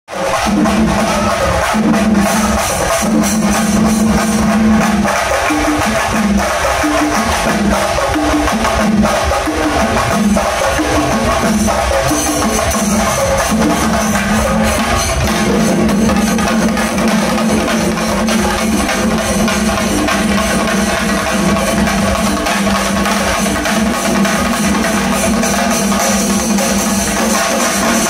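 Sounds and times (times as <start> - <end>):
drums beaten in fast rhythm: 0.1 - 28.0
hand cymbals: 0.1 - 28.0.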